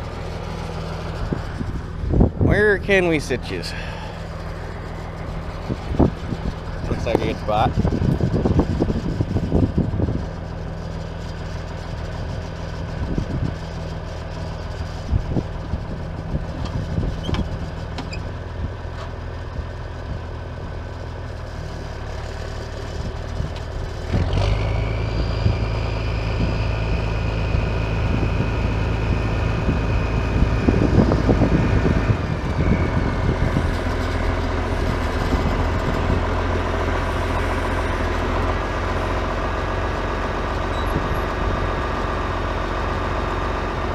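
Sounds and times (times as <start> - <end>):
steady high whine: 0.0 - 17.0, 23.0 - 43.9
tractor engine idling: 0.0 - 43.9.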